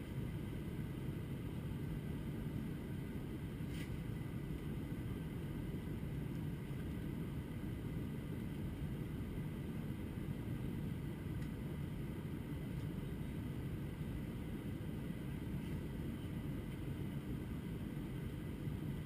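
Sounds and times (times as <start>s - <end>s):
airliner cabin engine rush: 0.0s - 19.0s
faint steady hum: 0.0s - 19.0s.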